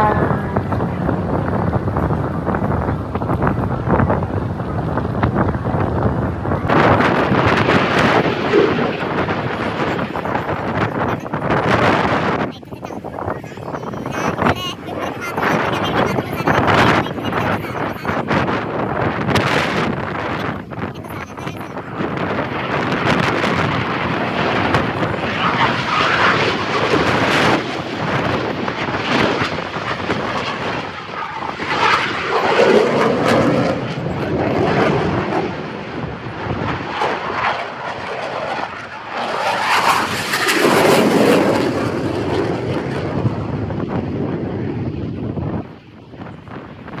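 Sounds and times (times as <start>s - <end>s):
aircraft engine flying past: 0.0s - 47.0s
wind buffeting microphone: 0.0s - 47.0s.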